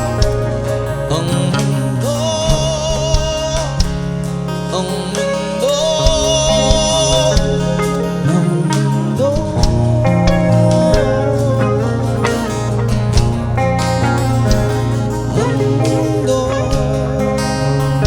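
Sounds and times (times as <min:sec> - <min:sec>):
bass guitar: 0:00.0 - 0:18.0
drums: 0:00.0 - 0:18.0
guitars: 0:00.0 - 0:18.0
wavering held melody notes: 0:00.0 - 0:18.0.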